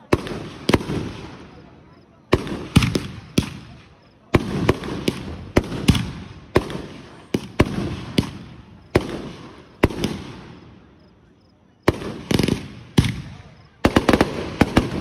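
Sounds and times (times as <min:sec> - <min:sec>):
fireworks banging: 0:00.0 - 0:01.7, 0:02.3 - 0:10.9, 0:11.8 - 0:15.0.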